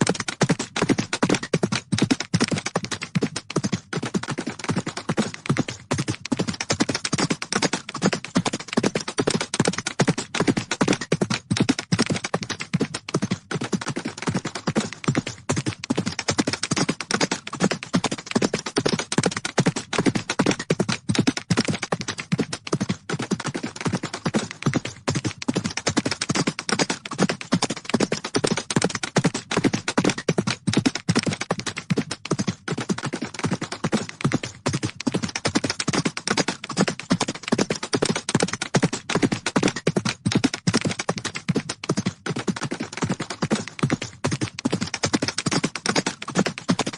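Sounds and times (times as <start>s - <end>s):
galloping horse hooves: 0.0s - 46.9s.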